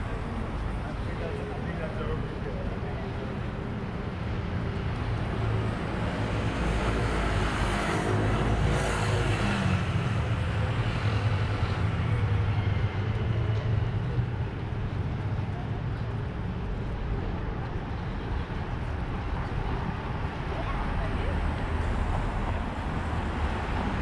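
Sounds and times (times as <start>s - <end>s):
city traffic: 0.0s - 24.0s.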